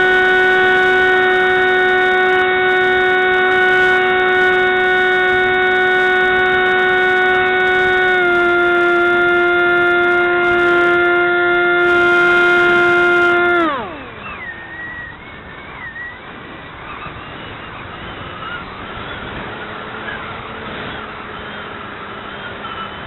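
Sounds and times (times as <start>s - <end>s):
model aircraft motor and propeller: 0.0s - 23.0s.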